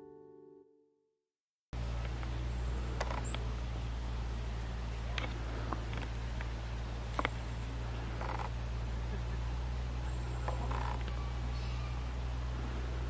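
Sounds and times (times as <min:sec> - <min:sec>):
steady low rumble: 0:01.8 - 0:13.0
small birds calling: 0:01.9 - 0:13.0.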